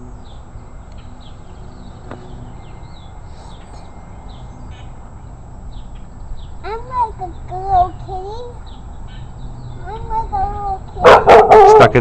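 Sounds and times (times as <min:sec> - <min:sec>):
birds tweeting: 0:00.0 - 0:12.0
low background rumble: 0:00.0 - 0:12.0.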